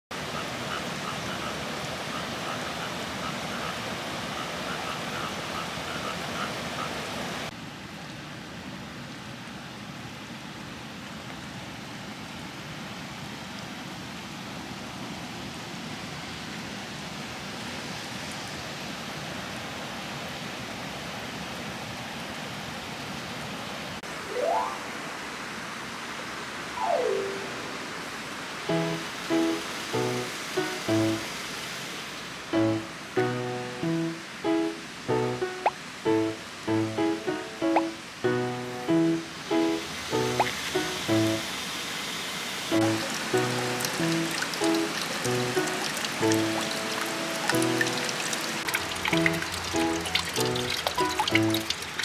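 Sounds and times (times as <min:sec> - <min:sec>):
steady rain: 0:00.1 - 0:52.0.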